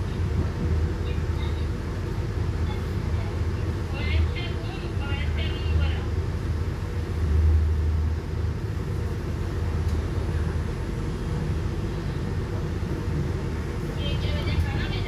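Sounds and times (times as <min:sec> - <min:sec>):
train rumbling from inside carriage: 0:00.0 - 0:15.0.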